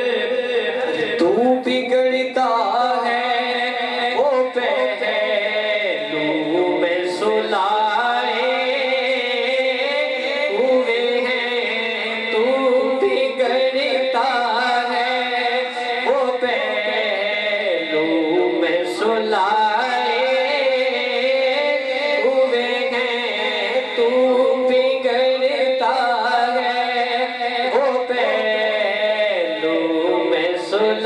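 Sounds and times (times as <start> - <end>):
man chanting into microphone: 0.0 - 31.0.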